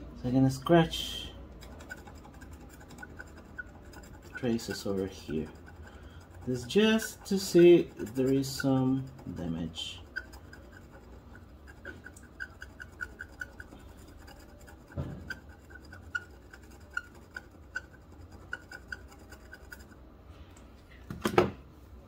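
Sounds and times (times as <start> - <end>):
pick scratching circuit board: 0.7 - 20.0.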